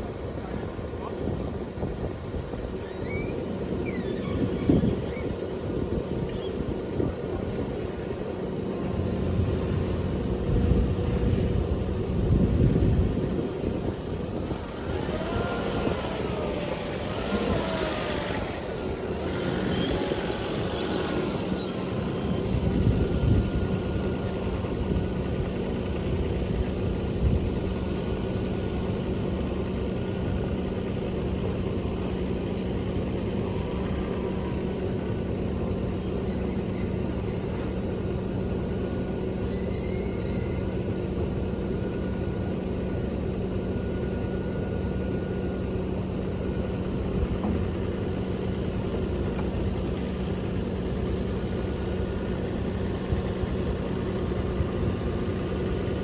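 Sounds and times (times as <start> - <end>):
road noise: 0.0 - 56.0
truck engine running: 0.0 - 56.0.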